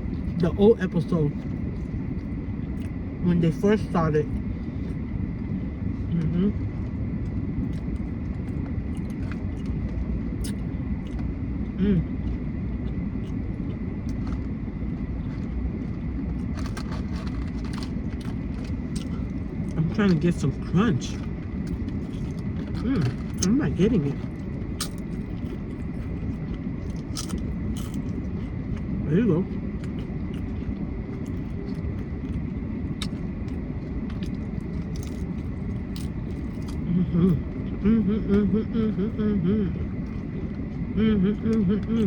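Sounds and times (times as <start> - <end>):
chewing nachos: 0.0 - 42.0
eating clicks and crunches: 0.1 - 3.0, 6.2 - 38.5, 39.8 - 42.0
car rumble inside cabin: 5.3 - 42.0.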